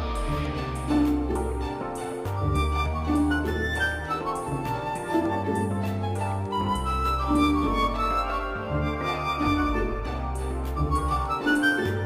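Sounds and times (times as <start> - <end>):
melodic instrumental music: 0.0 - 12.0.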